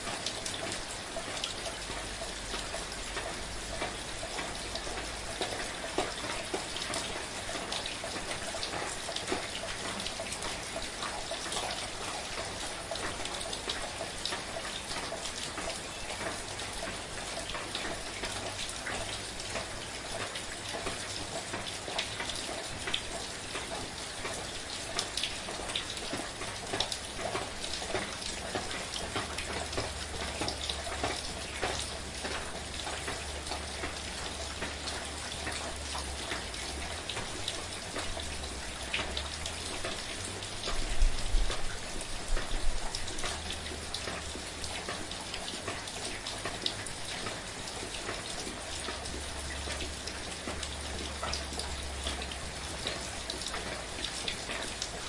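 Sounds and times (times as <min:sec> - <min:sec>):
gentle rain falling: 0:00.0 - 0:55.0
raindrops pattering: 0:00.0 - 0:55.0.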